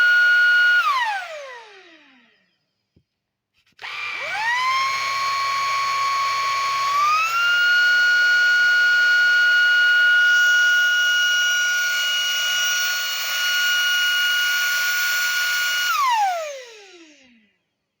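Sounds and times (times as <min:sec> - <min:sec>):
vacuum cleaner motor whining: 0:00.0 - 0:02.6, 0:03.8 - 0:17.5.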